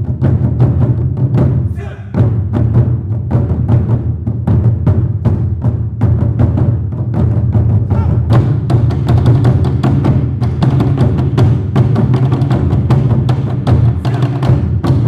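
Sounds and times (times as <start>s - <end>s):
taiko drums playing fast rhythm: 0.0s - 15.0s.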